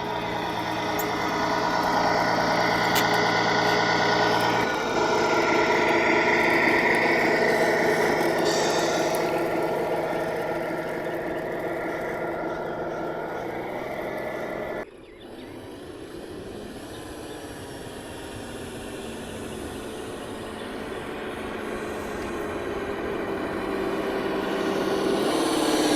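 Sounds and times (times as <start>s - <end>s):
model vehicle motor humming: 0.0s - 25.9s
quieter motor running: 0.0s - 25.9s.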